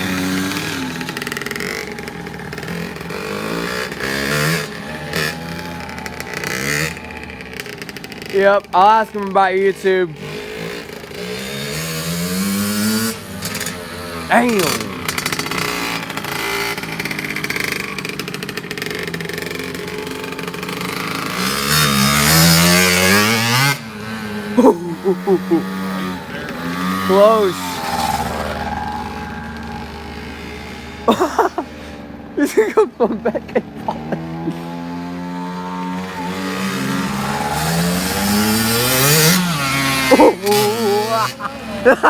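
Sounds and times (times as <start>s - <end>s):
dirt bike engine accelerating: 0.0s - 42.0s.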